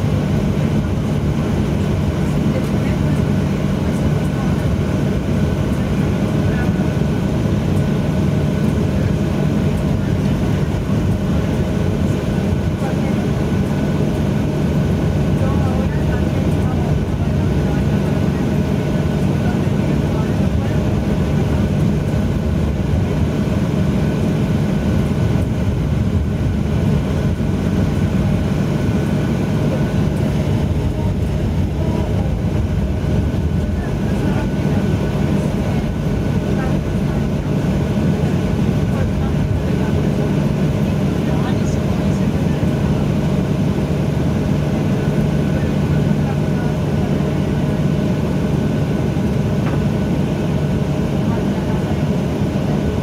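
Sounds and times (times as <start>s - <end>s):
jet engines and wheels rumbling: 0.0s - 53.0s.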